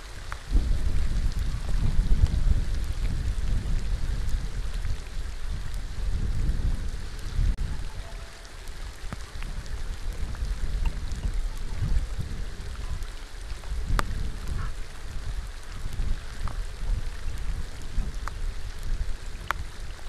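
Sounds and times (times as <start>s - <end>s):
rain falling on water: 0.0s - 20.0s
deep low rumble: 0.5s - 20.0s.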